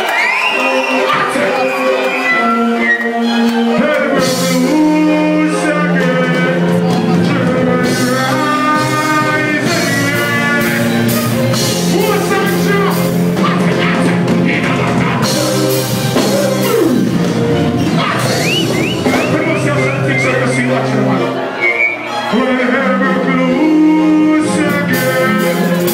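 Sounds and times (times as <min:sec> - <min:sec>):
live band music: 0:00.0 - 0:25.9
person singing: 0:00.2 - 0:25.9.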